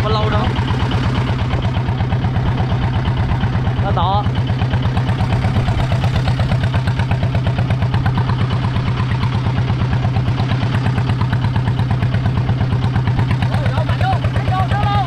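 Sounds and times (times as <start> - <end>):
boat engine pulsing: 0.0 - 15.0.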